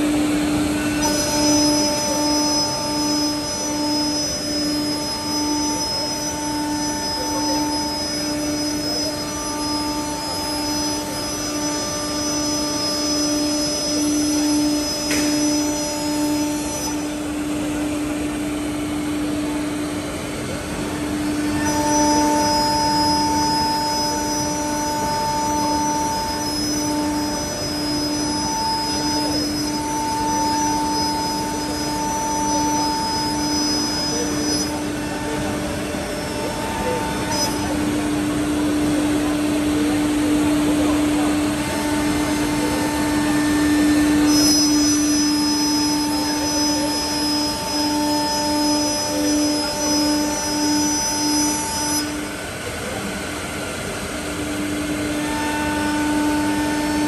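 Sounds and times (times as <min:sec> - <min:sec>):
wood router spindle whine: 0:00.0 - 0:57.0.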